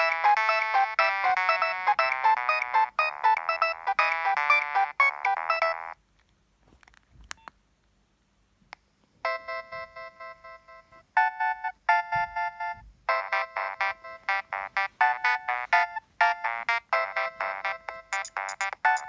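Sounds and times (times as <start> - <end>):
phone ringtone melody: 0.0 - 6.0, 9.2 - 19.0.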